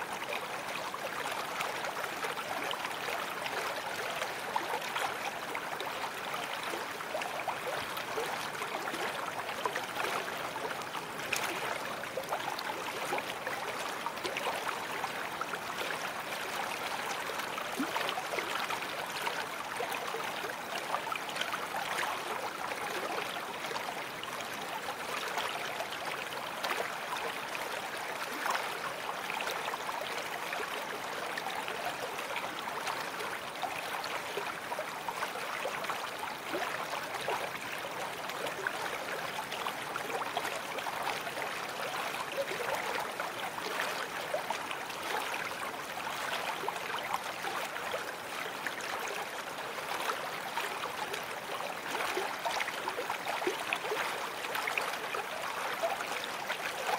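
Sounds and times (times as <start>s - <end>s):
brook water gurgling: 0.0s - 56.9s.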